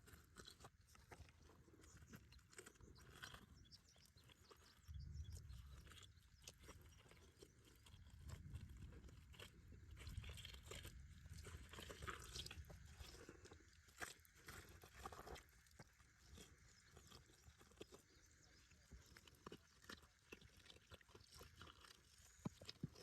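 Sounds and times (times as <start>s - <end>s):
gravel crunching and clicking: 0.0s - 23.0s.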